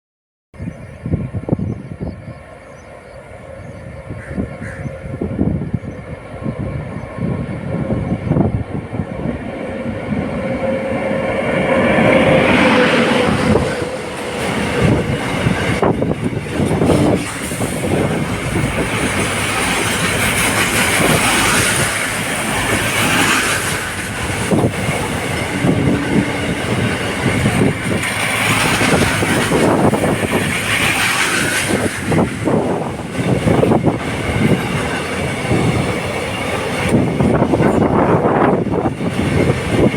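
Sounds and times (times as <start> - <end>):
freight train rumble: 0.6 - 39.9.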